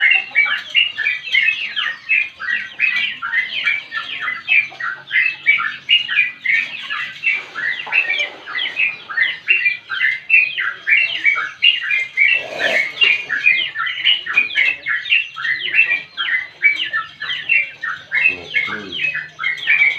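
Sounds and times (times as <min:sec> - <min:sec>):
bird chattering song: 0:00.0 - 0:19.9.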